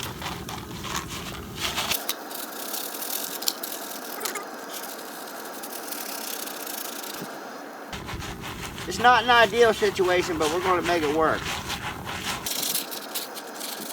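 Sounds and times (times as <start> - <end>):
kernels rattling in foil pan: 0.0 - 7.3, 8.0 - 13.9.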